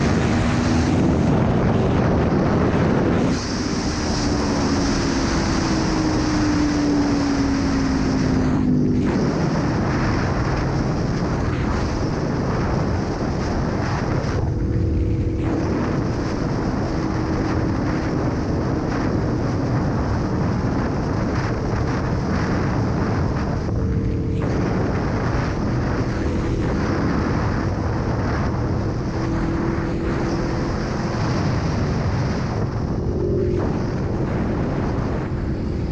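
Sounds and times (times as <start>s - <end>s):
motorcycle engine running: 0.0s - 35.9s
wind noise on microphone: 0.0s - 35.9s.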